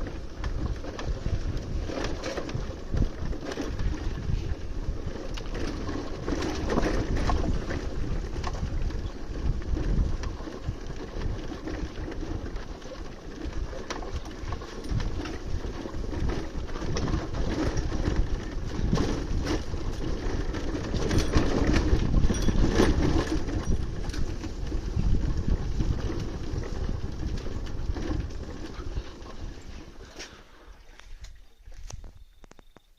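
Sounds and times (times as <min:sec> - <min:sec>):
motorcycle knocks and rattles: 0:00.0 - 0:29.1.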